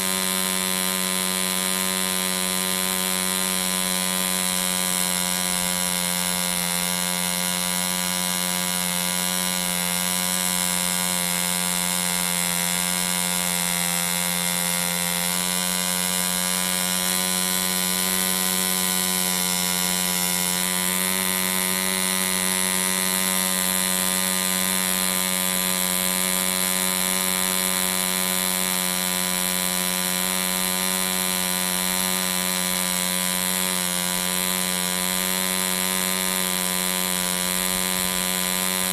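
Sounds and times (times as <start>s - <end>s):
model diesel engine running: 0.0s - 38.9s.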